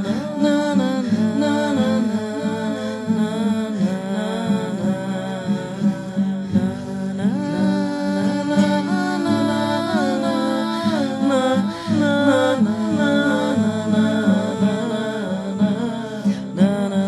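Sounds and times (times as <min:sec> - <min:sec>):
person singing wordless wail: 0:00.0 - 0:17.0.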